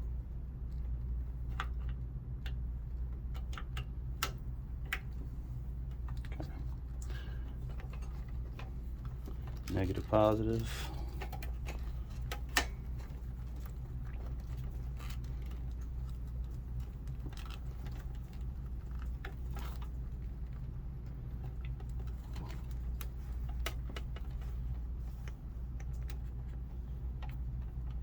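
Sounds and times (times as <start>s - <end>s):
steady low hum: 0.0s - 28.0s
clicks of connectors being handled: 1.5s - 5.2s, 5.9s - 20.7s, 21.4s - 26.6s.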